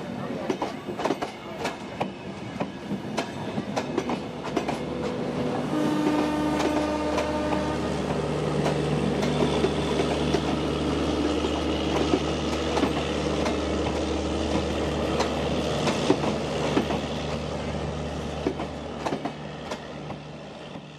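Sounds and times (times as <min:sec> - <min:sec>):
train wheels clicking over rail joints: 0:00.4 - 0:05.2, 0:06.0 - 0:17.4, 0:18.3 - 0:20.9.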